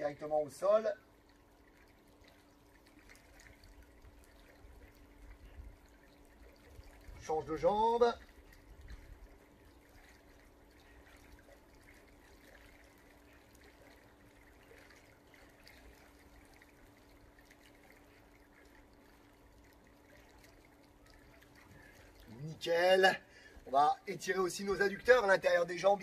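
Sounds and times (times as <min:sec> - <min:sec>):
faint water trickle: 0:00.0 - 0:26.0
low steady hum: 0:00.0 - 0:26.0.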